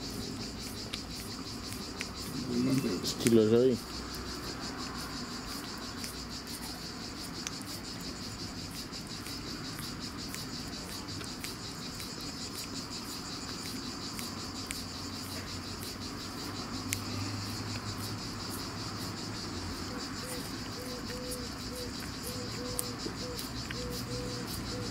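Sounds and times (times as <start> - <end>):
insects buzzing: 0.0 - 24.9.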